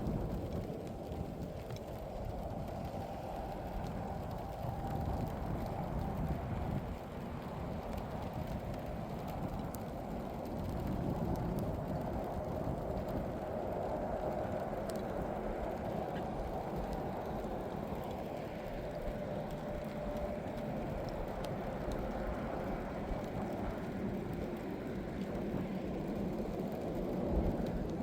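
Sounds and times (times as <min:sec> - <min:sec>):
faint steady hum: 0:00.0 - 0:28.0
low rumble of moving vehicle: 0:00.0 - 0:28.0.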